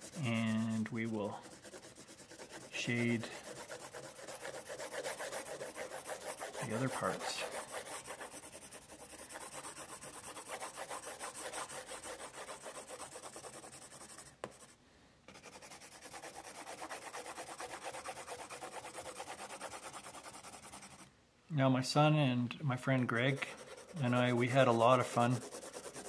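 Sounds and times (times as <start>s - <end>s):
pencil shading on paper: 0.0s - 21.1s, 23.2s - 26.0s.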